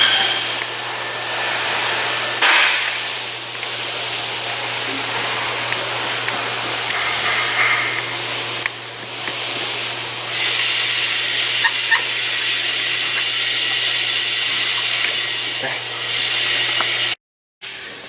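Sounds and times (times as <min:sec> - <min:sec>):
smoke machine hissing: 0:00.0 - 0:18.0.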